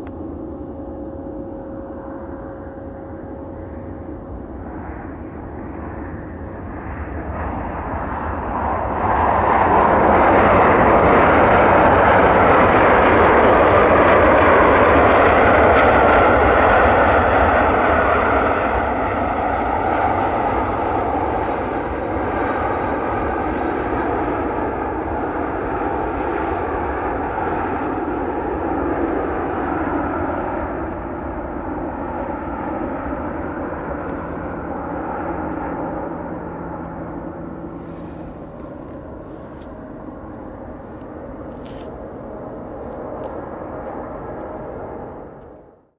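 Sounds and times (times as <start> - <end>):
jet engines roaring: 0.0 - 45.8.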